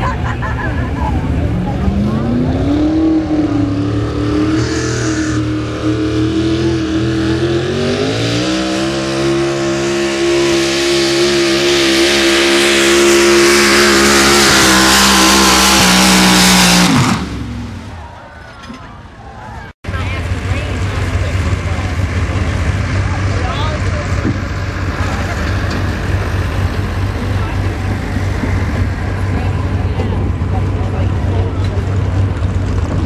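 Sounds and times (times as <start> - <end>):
truck engine at full throttle: 0.0 - 18.8, 19.8 - 33.0.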